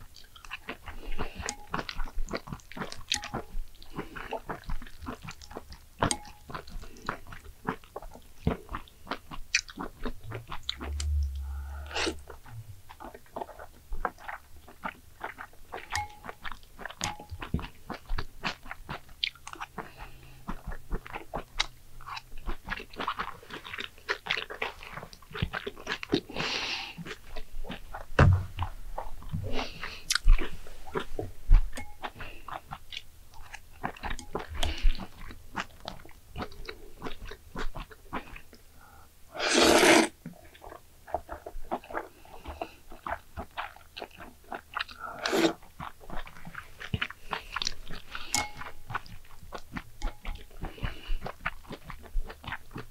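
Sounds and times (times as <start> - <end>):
chewing and biting: 0.0 - 38.6, 40.3 - 52.9.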